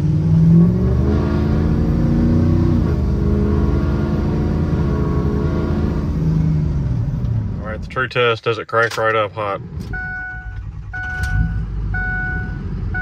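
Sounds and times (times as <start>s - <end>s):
diesel truck engine running: 1.6s - 13.0s.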